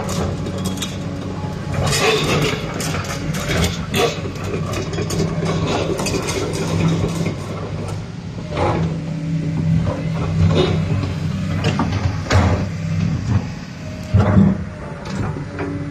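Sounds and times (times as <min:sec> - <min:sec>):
excavator arm clunks and knocks: 0:00.0 - 0:15.9
excavator diesel engine running: 0:00.0 - 0:15.9.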